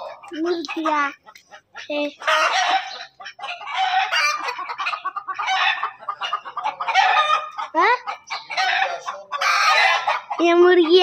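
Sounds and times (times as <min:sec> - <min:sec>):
chickens clucking and squawking: 0:00.0 - 0:11.0.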